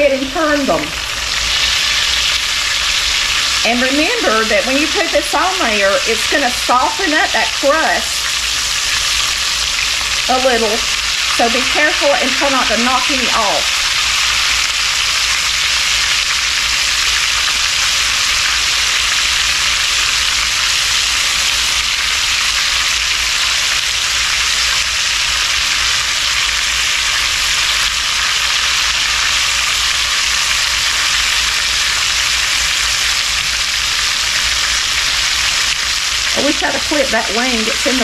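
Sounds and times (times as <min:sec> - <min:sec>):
chicken sizzling in a skillet: 0:00.0 - 0:38.0.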